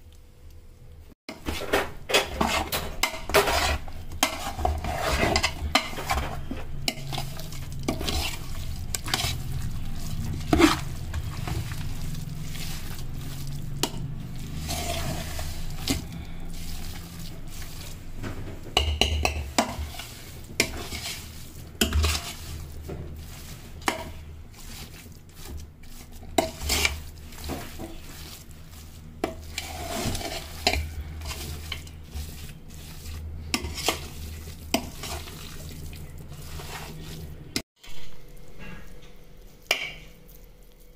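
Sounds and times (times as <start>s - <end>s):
light sizzle: 0.0s - 40.9s
metal spatula scraping a pan: 1.3s - 40.3s.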